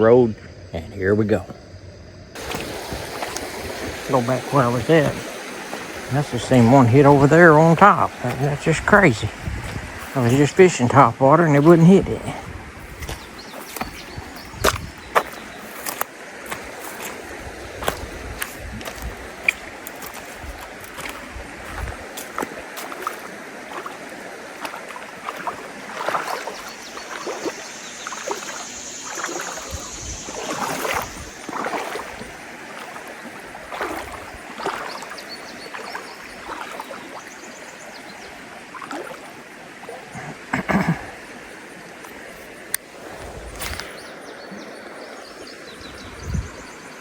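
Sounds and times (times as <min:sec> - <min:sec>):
creek water running: 0:00.0 - 0:47.0
water sloshing and splashing: 0:02.3 - 0:45.4.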